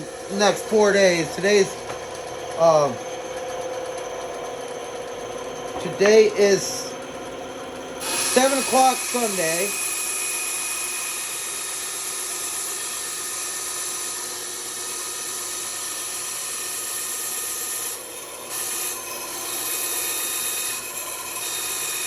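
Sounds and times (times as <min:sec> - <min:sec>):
band saw cutting: 0:00.0 - 0:22.0.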